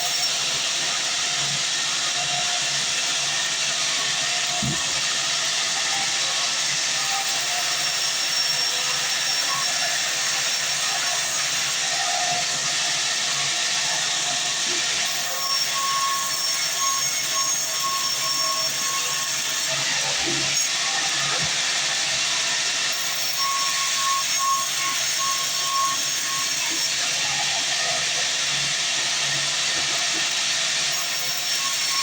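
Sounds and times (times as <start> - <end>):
band sawmill cutting log: 0.0 - 32.0.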